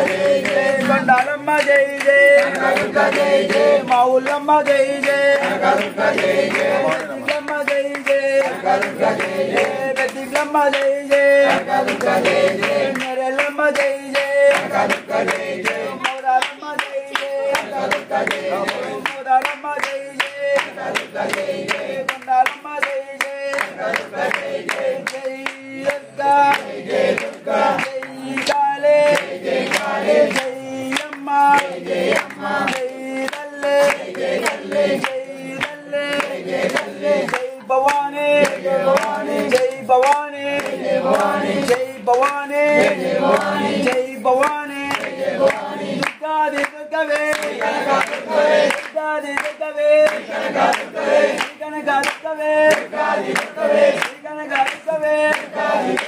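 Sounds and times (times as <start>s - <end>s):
group singing a chant: 0.0s - 56.0s
hand-clapping: 0.0s - 56.0s.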